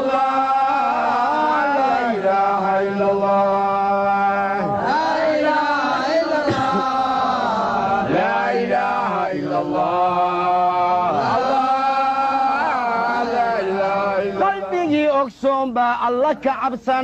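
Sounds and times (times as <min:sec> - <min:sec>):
men singing a religious chant: 0:00.0 - 0:17.0.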